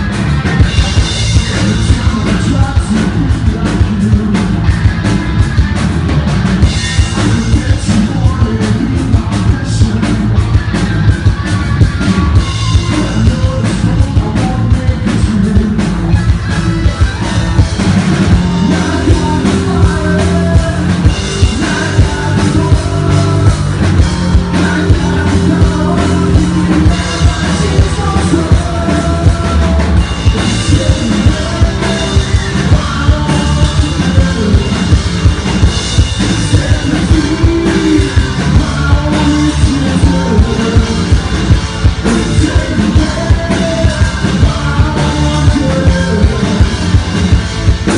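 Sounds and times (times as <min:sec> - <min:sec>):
person singing: 0:00.0 - 0:04.8, 0:06.8 - 0:10.8, 0:12.0 - 0:35.4, 0:36.0 - 0:47.2
hard rock band playing: 0:00.0 - 0:47.9.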